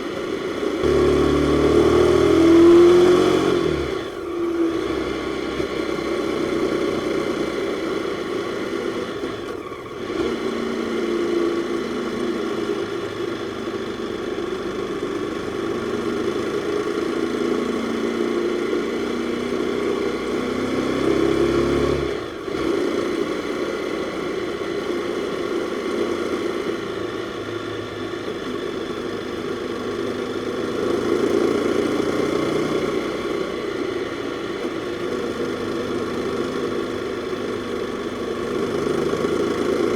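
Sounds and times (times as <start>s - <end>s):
motorcycle engine pulsing hum: 0.0s - 39.9s.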